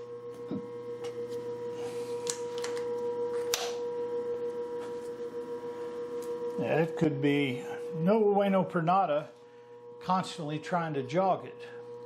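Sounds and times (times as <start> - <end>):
grinder motor humming: 0.0 - 12.0.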